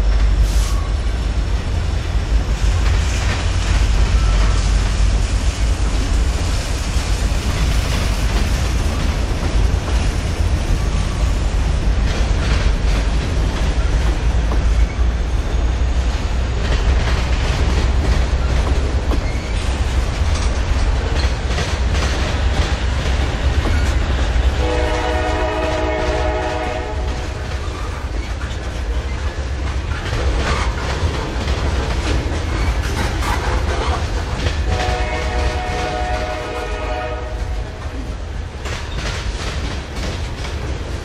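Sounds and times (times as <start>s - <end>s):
freight train rumbling past: 0.0s - 41.0s
wheels clicking over rail joints: 0.0s - 41.0s.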